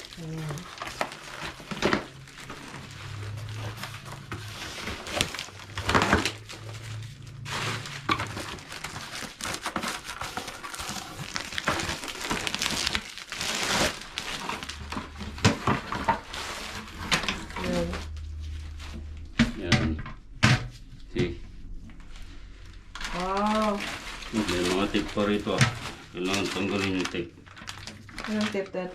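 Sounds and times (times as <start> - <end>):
plastic crinkling and rustling: 0.0 - 19.7, 20.6 - 28.9.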